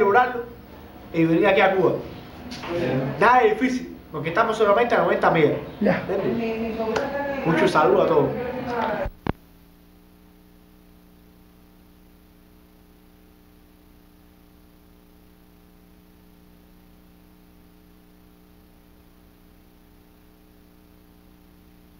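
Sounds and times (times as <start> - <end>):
faint electrical hum with hiss: 0.0 - 21.9.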